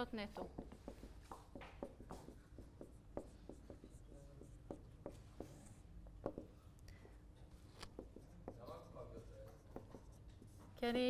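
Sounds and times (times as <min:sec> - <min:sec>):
marker writing on whiteboard: 0:00.3 - 0:11.0.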